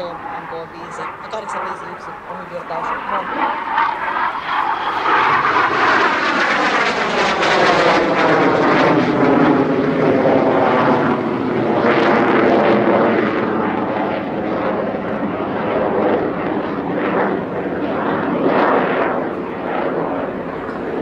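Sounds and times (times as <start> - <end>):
jet flying past: 0.0 - 21.0.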